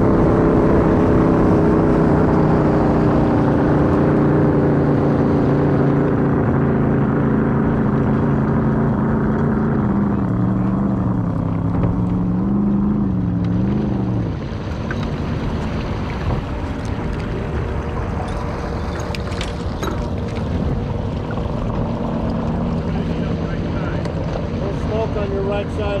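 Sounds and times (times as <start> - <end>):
boat engine idling: 0.0 - 26.0
water washing along hull: 0.0 - 26.0.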